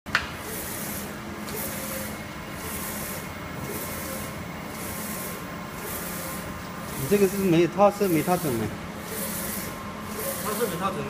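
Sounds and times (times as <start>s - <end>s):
steady machine hum: 0.1s - 11.0s
printer carriage shuttling hiss: 0.4s - 11.0s.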